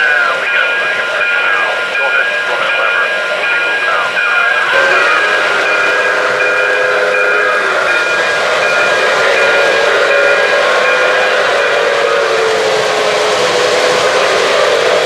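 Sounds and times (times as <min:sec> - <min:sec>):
model train rumbling past: 0:00.0 - 0:15.0
steady tones: 0:00.0 - 0:15.0.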